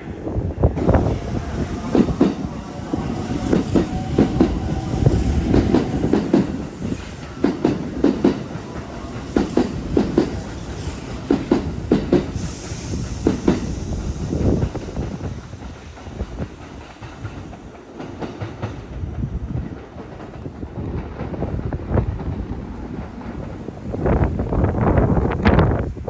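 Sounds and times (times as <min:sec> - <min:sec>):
train rumble: 0:00.0 - 0:26.0
train wheels clacking over rail joints: 0:00.8 - 0:22.4.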